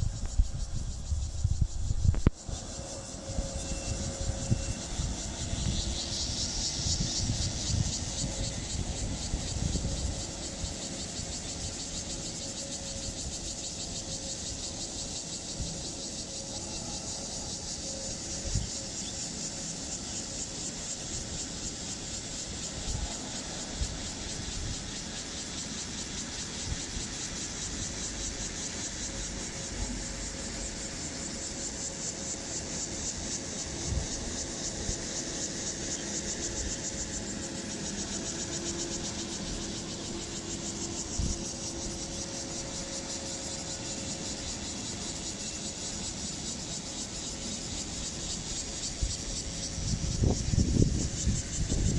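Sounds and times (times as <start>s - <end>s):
insect buzzing: 0.0s - 51.9s.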